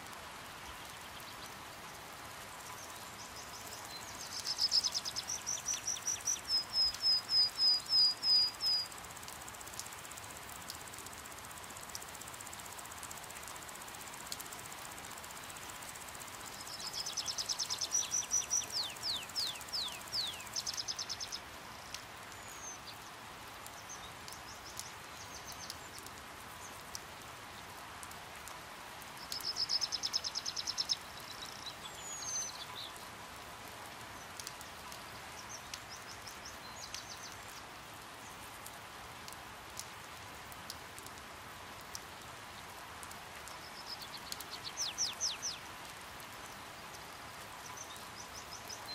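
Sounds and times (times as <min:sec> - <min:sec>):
faint drips: 0:00.0 - 0:48.9
light rain hiss: 0:00.0 - 0:48.9.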